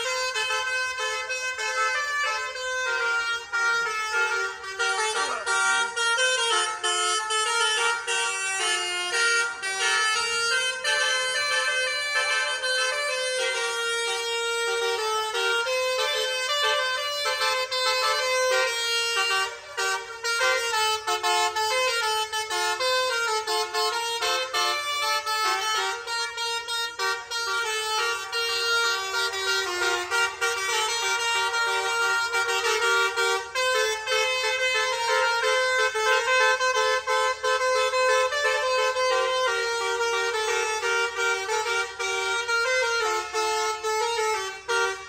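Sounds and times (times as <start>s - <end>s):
multi-tone air horn melody: 0.0s - 45.0s.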